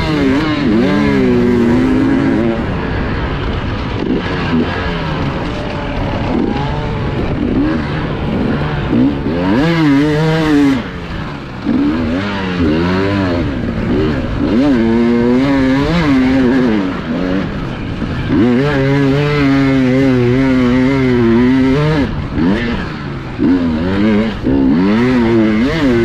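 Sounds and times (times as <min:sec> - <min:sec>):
bike rattling over ground: 0:00.0 - 0:26.0
motorcycle engine revving: 0:00.0 - 0:26.0.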